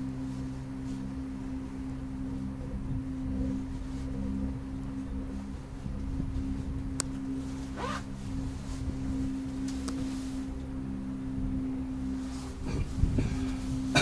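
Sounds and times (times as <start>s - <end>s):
gondola cabin humming tone: 0.0s - 14.0s
low running rumble: 0.0s - 14.0s.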